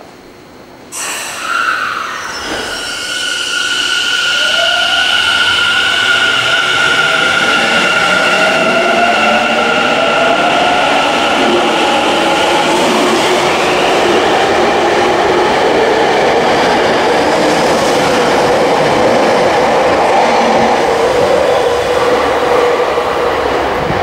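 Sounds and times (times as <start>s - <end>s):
subway train pulling out: 0.0s - 24.0s
train whine: 0.9s - 24.0s.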